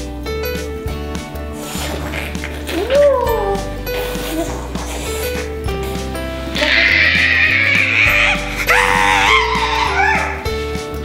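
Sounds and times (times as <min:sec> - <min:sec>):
background music with low bass: 0:00.0 - 0:11.0.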